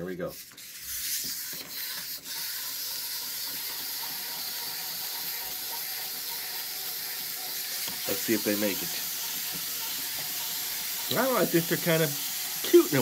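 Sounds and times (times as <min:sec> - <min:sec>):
wind-up toys whirring: 0:00.0 - 0:13.0.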